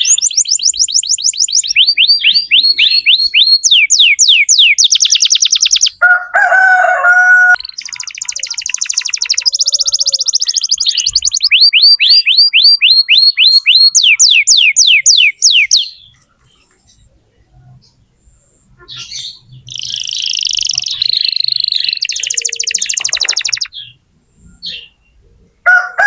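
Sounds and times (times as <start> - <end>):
canary singing whistles and trills: 0.0 - 6.0, 7.2 - 25.6.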